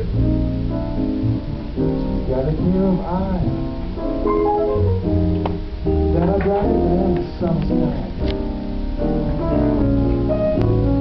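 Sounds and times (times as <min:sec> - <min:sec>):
piano: 0:00.0 - 0:11.0
plucked double bass: 0:00.0 - 0:11.0.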